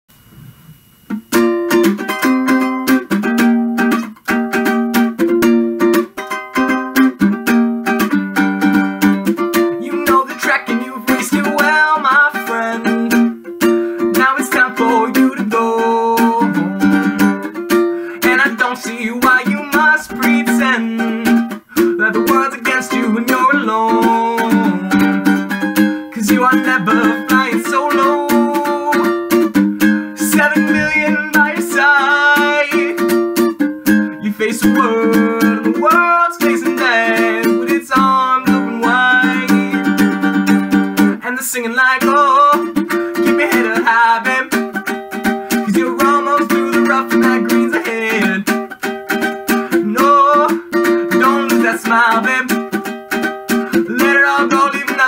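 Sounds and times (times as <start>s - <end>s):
strummed chords on small string instrument: 1.1s - 55.0s.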